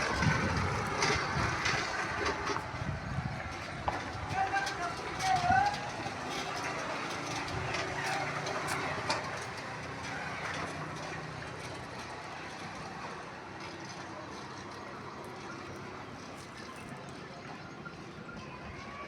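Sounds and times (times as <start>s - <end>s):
truck engine running: 0.0s - 18.2s.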